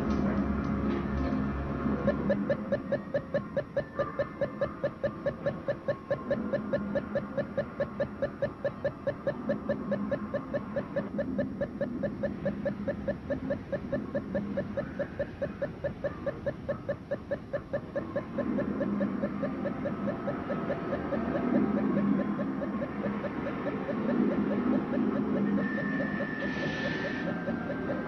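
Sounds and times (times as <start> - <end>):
rapid electronic beeping: 1.4 - 28.0.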